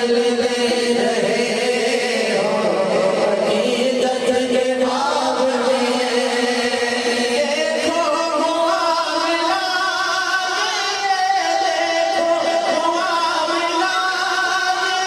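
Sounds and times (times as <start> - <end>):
men singing devotional song: 0.0 - 15.0.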